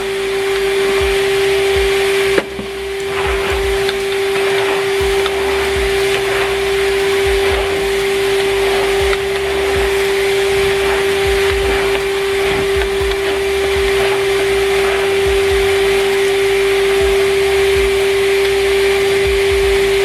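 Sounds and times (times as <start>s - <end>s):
vacuum cleaner running: 0.0s - 20.0s
soft low bumps: 1.0s - 20.0s.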